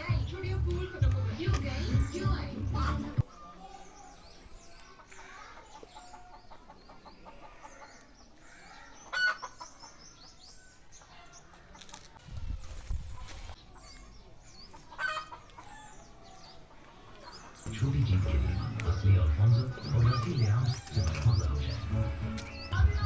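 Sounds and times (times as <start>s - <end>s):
birds calling and chirping: 0.0s - 11.9s, 13.7s - 23.0s.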